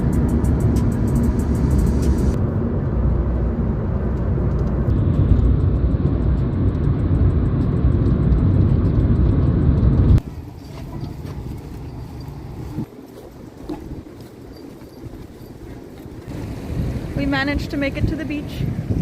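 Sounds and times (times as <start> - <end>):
car road noise rumble: 0.0 - 19.0.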